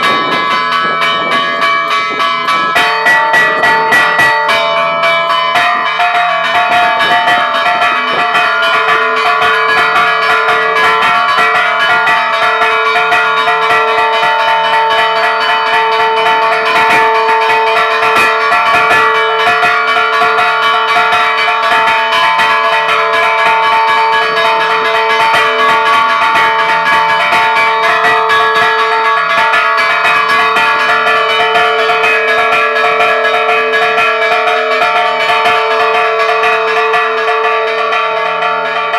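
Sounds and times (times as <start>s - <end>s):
church bells pealing: 0.0s - 38.9s
deep bell tone: 0.0s - 38.9s.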